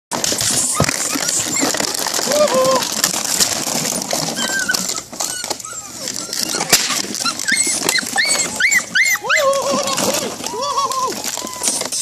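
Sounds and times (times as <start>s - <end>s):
plastic bottles clattering: 0.1s - 12.0s
puppies whining and yipping: 0.2s - 12.0s.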